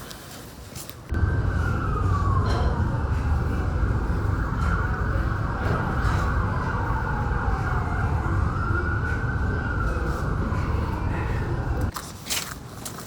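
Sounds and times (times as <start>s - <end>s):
heavy low rumble: 1.1s - 11.9s
siren wailing: 1.1s - 11.9s.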